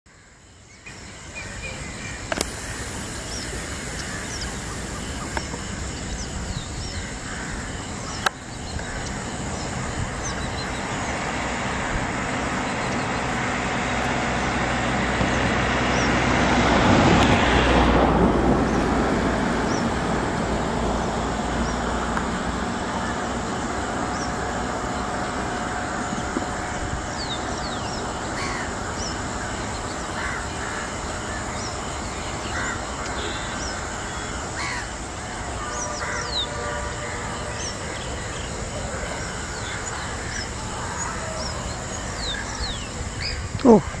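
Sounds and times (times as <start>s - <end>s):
steady rushing noise: 0.8s - 44.0s.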